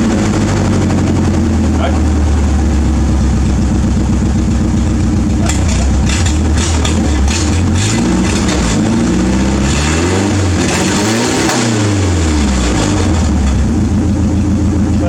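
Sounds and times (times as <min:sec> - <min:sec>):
petrol engine revving and idling: 0:00.0 - 0:15.0.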